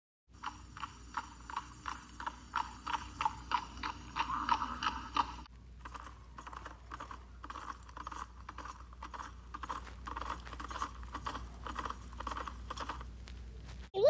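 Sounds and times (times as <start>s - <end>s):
horse hooves clip-clopping: 0.4s - 13.4s.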